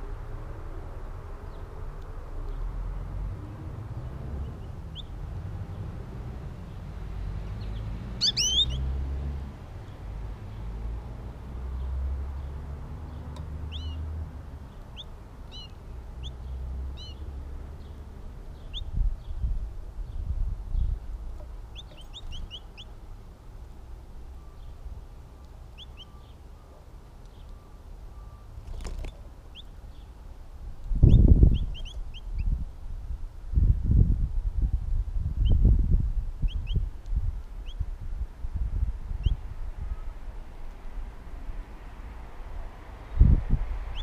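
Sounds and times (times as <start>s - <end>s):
songbirds chirping: 0.0s - 33.4s, 35.3s - 44.0s.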